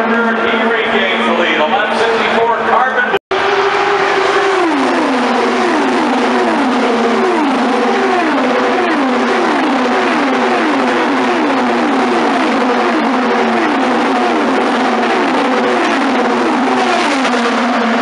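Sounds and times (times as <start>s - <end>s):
racing cars passing at speed: 3.3s - 18.0s.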